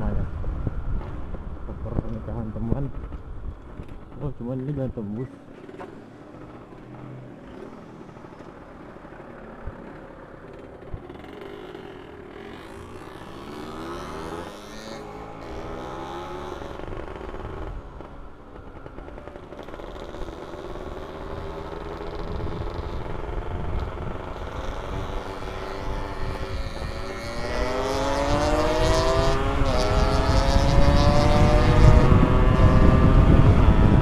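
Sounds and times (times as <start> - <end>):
low wind rumble: 0.0 - 14.6, 15.2 - 34.0
two-stroke motorcycle engine: 5.3 - 34.0.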